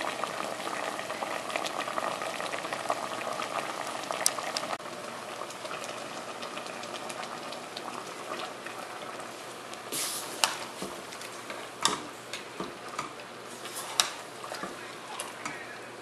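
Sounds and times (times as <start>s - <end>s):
sauce bubbling in a metal pot: 0.0s - 15.7s.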